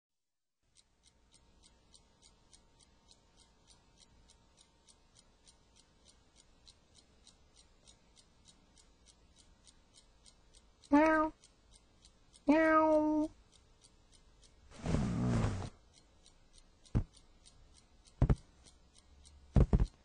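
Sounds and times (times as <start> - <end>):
clock ticking: 0.7 - 20.0.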